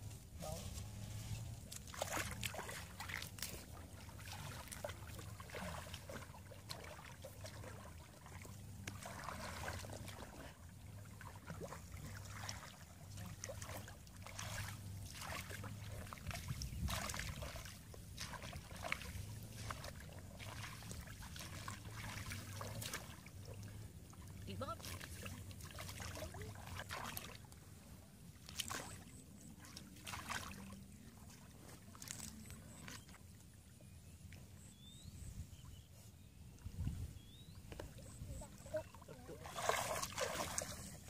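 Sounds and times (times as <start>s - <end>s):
water sloshing and splashing: 0.2s - 35.7s, 36.5s - 41.0s.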